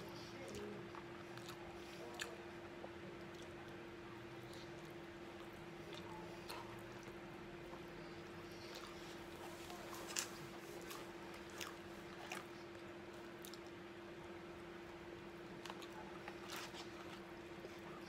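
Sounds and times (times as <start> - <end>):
close-up chewing: 0.0 - 18.0
steady low hum: 0.0 - 18.0.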